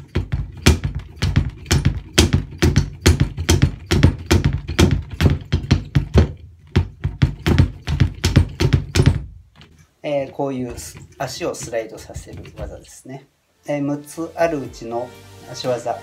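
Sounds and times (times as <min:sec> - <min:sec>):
kick drum paired thuds: 0:00.0 - 0:12.9.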